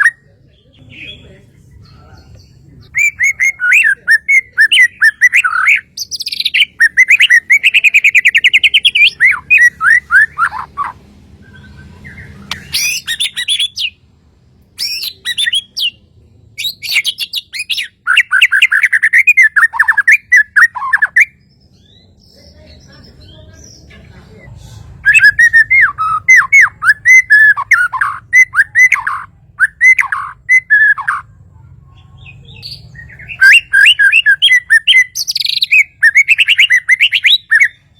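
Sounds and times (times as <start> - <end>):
bird singing trills and whistles: 2.3 - 14.0, 14.8 - 16.0, 16.6 - 23.8, 25.0 - 31.3, 32.2 - 37.9.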